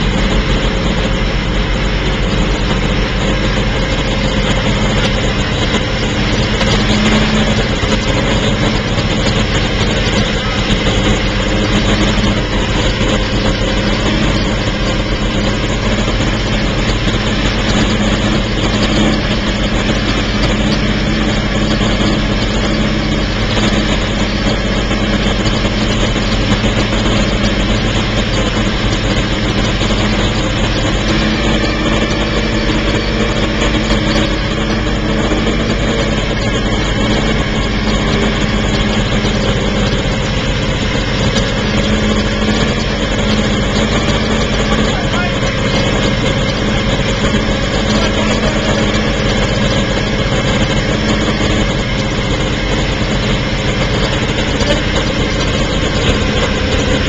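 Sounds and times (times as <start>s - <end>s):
racing engine idling: 0.0s - 57.0s.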